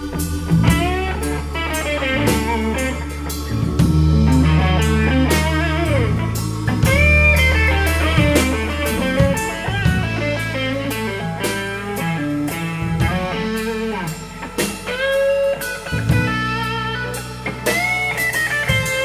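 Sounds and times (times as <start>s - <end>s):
drums: 0.0s - 19.0s
electric guitar soloing: 0.0s - 19.0s
keyboard bass: 0.0s - 19.0s.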